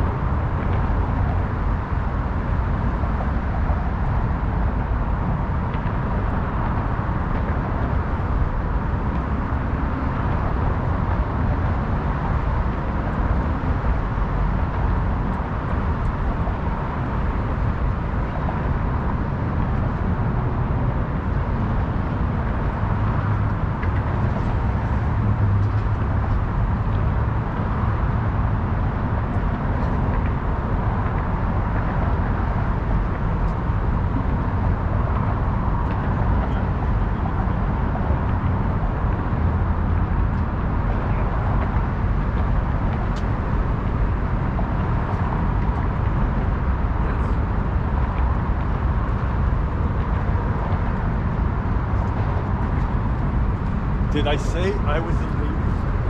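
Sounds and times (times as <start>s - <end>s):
city traffic hum: 0.0s - 56.0s.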